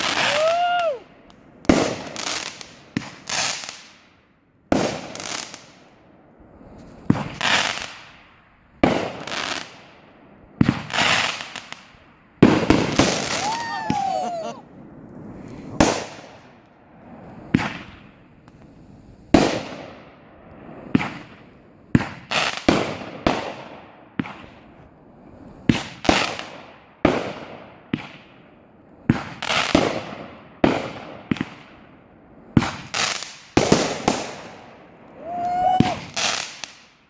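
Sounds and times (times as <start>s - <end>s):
fireworks bangs: 0.0s - 1.0s, 1.6s - 3.9s, 4.7s - 5.8s, 6.8s - 18.6s, 19.3s - 25.0s, 25.6s - 31.8s, 32.5s - 36.9s.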